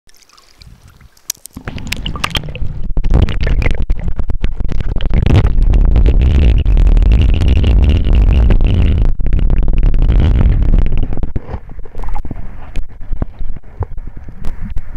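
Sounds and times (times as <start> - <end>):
muffled underwater river rumble: 0.7 - 14.9.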